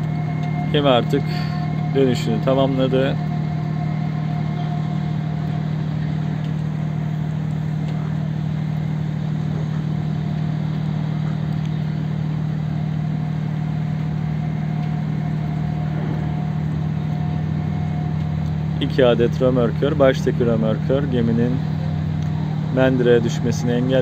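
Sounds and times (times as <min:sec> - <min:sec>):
engine running: 0:00.0 - 0:24.0
faint high hum: 0:00.0 - 0:24.0.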